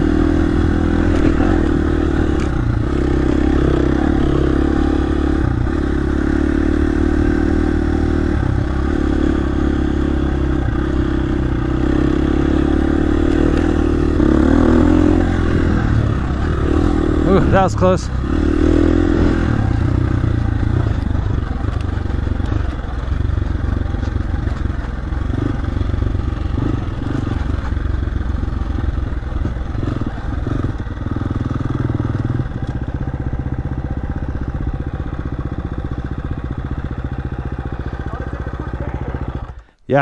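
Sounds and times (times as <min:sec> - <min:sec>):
dirt bike engine revving: 0:00.0 - 0:39.6.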